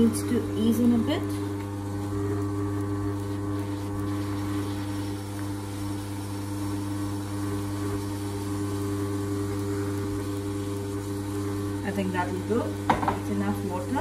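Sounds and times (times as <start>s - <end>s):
grinder motor humming: 0.0s - 14.0s.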